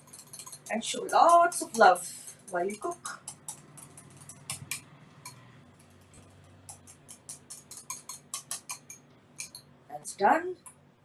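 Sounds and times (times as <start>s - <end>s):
wire whisk clicking against glass bowl: 0.0s - 5.4s, 6.1s - 9.7s.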